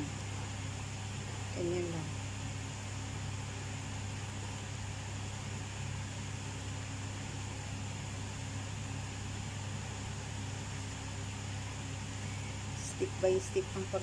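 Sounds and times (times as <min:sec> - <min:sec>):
fan humming and hissing: 0:00.0 - 0:14.0.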